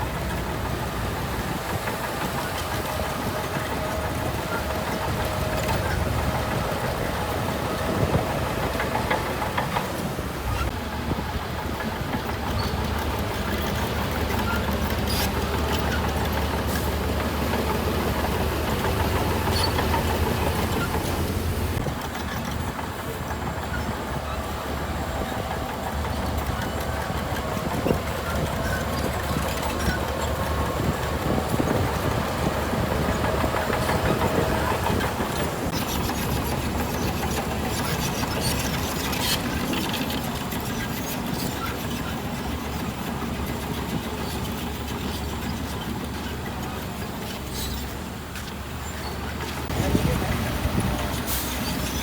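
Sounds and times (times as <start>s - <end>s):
diesel machinery rumbling: 0.0s - 52.0s.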